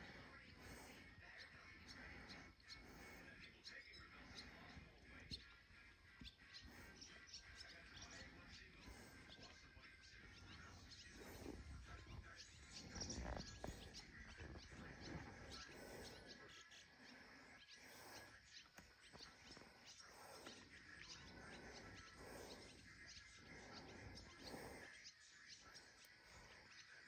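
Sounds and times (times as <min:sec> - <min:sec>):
soft bird chirps: 0:00.0 - 0:27.0.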